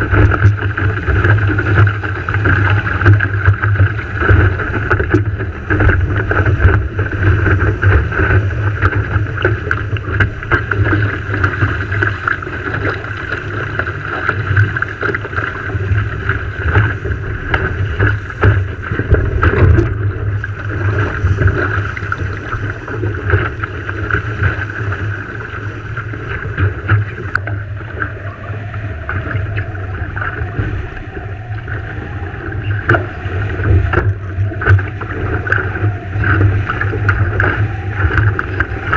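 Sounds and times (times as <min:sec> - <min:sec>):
water splashing along hull: 0:00.0 - 0:38.9
wind buffeting microphone: 0:00.0 - 0:38.9.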